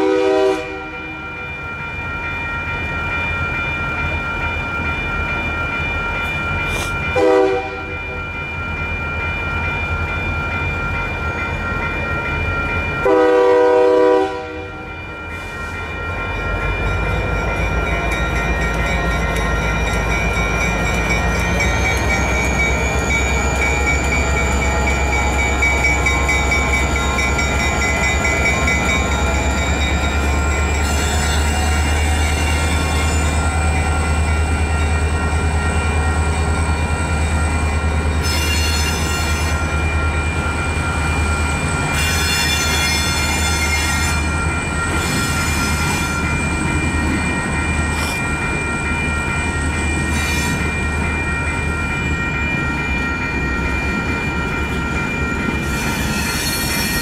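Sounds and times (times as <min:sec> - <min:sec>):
freight train rumbling: 0:00.0 - 0:57.0
train wheels squealing on rails: 0:01.4 - 0:07.6, 0:15.0 - 0:57.0.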